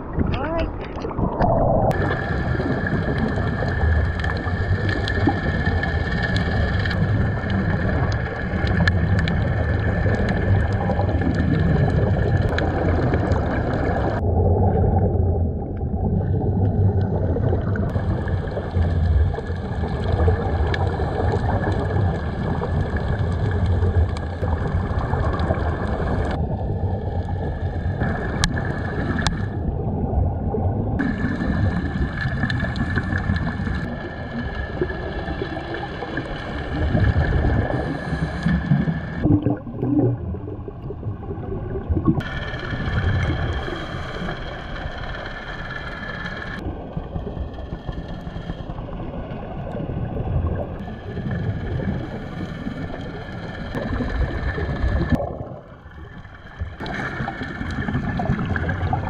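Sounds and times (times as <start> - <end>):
air bubbling underwater: 0.0 - 44.7, 48.5 - 59.0
muffled underwater rumble: 0.0 - 59.0.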